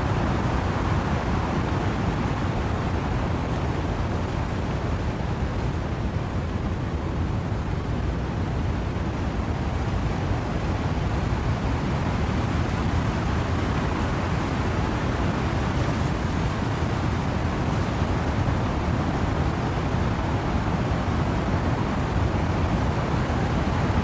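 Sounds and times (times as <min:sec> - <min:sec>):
wind and rain through trees: 0:00.0 - 0:24.0.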